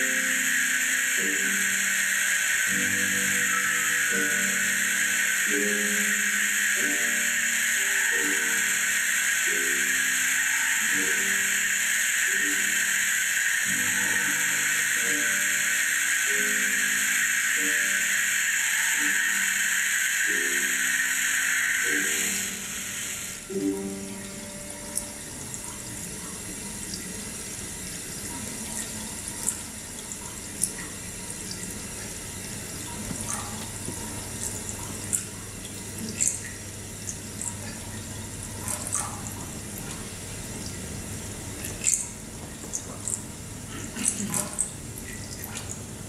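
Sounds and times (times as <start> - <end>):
sharp water drips: 0.0 - 46.0
trickle of running water: 0.0 - 46.0.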